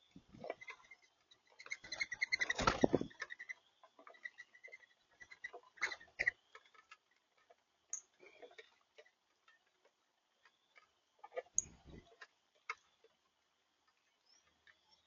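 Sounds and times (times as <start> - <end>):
birds clicking and tapping: 0.0 - 15.0.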